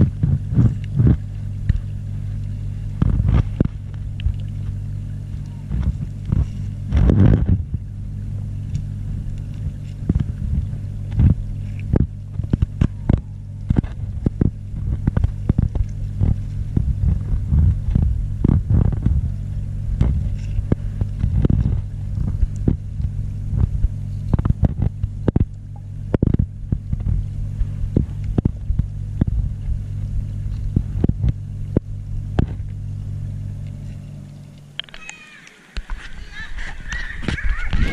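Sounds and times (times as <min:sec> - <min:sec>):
muffled underwater hum: 0:00.0 - 0:37.9.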